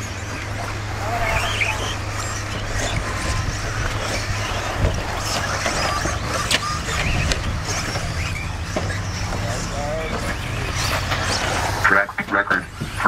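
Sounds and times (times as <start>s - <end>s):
rc car motors whining: 0.0s - 13.0s
tyres on dirt: 0.0s - 13.0s.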